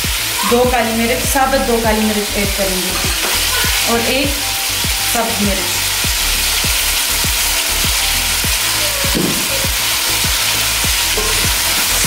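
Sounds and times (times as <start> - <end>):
background music with beat: 0.0 - 12.0
chicken sizzling in hot oil: 0.0 - 12.0.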